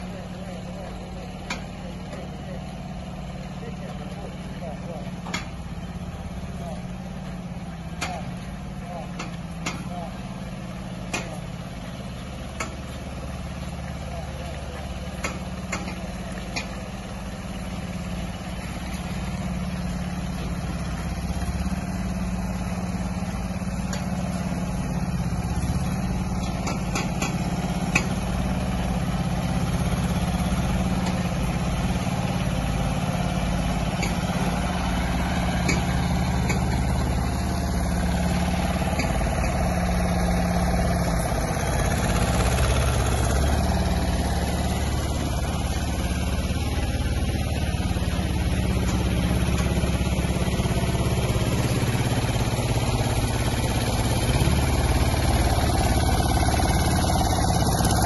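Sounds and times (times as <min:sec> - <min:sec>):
truck diesel engine rumbling: 0:00.0 - 0:58.0.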